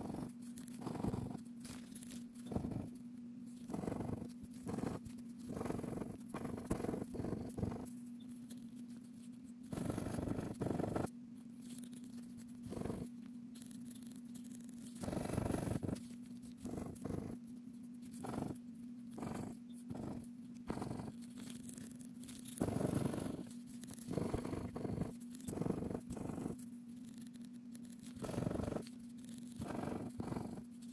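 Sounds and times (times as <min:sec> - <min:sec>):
scratching lottery ticket: 0:00.0 - 0:30.9
steady low hum: 0:00.0 - 0:30.9.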